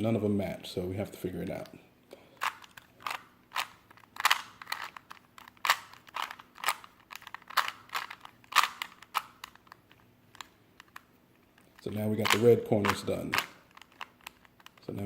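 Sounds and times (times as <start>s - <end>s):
puzzle cube clicking: 2.4s - 14.8s.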